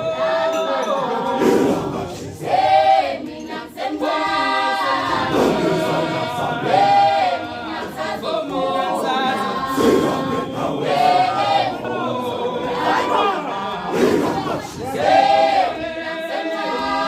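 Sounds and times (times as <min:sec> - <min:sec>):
group singing a cappella: 0:00.0 - 0:17.0.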